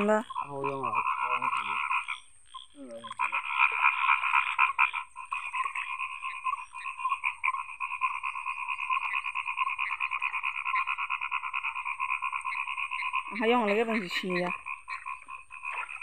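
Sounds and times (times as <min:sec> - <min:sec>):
frogs croaking in chorus: 0:00.0 - 0:16.0.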